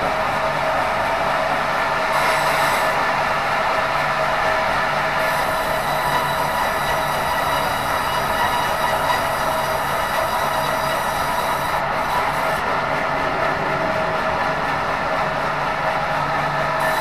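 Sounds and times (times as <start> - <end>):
machine running with hum tones: 0.0 - 17.0.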